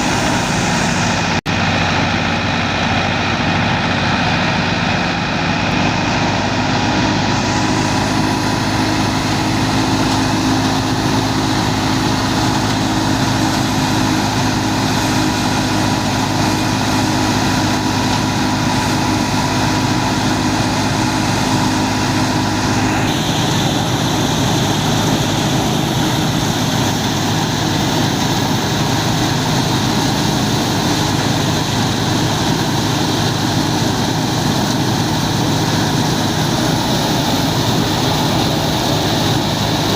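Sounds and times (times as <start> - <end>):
thresher machinery whirring: 0.0 - 39.9
tractor diesel engine running: 0.0 - 39.9.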